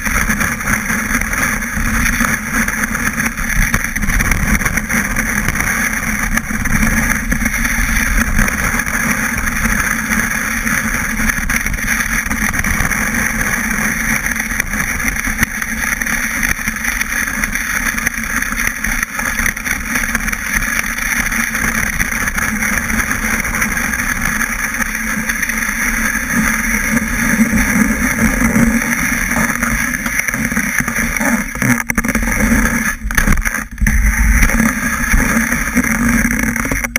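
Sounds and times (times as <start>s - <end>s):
snowboard scraping over snow: 0.0s - 36.9s.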